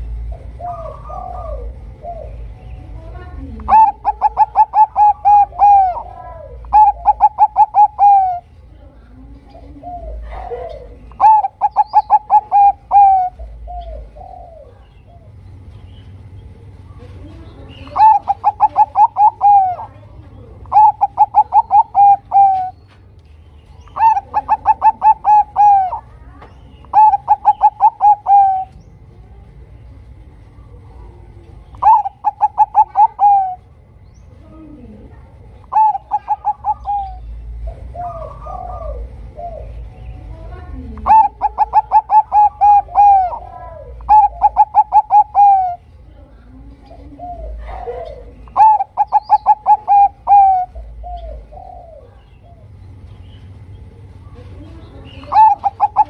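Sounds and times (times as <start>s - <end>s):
dove cooing: 0.0s - 15.4s, 16.6s - 22.9s, 23.7s - 28.8s, 30.8s - 33.8s, 34.4s - 52.9s, 53.7s - 56.0s.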